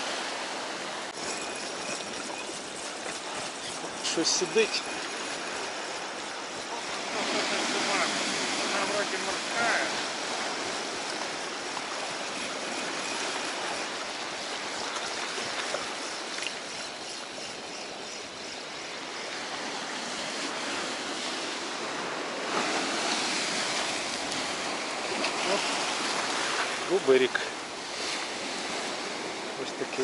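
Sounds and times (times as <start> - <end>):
stormy sea surf breaking: 0.0 - 15.8, 19.3 - 30.0.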